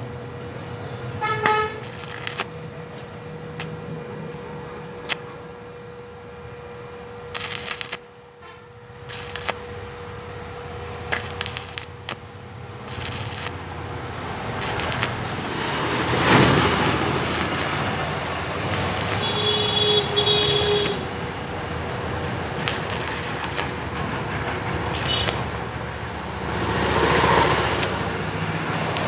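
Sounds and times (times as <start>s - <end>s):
welding arc crackling and sizzling: 0.0s - 4.2s, 4.8s - 5.8s, 6.8s - 8.3s, 8.9s - 29.0s.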